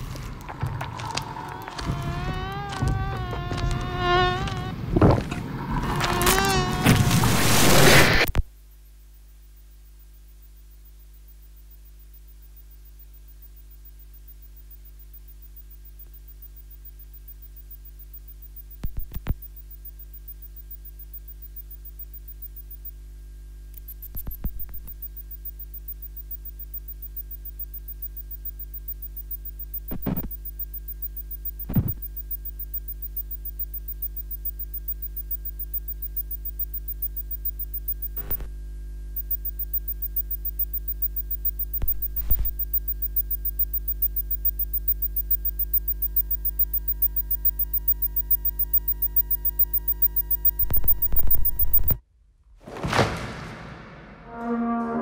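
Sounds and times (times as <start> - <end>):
low electric hum: 0.0 - 52.5.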